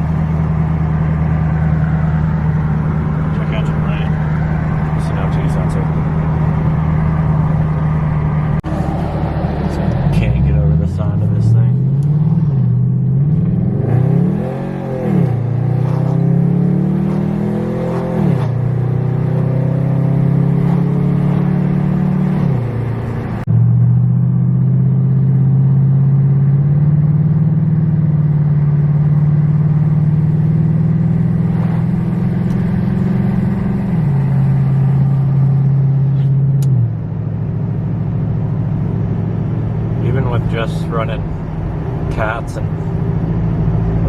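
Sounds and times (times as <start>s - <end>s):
car engine accelerating from inside: 0.0s - 44.0s.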